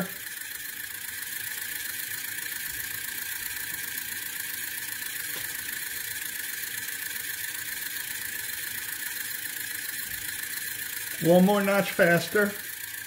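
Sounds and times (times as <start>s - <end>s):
small motor whirring: 0.0s - 13.0s.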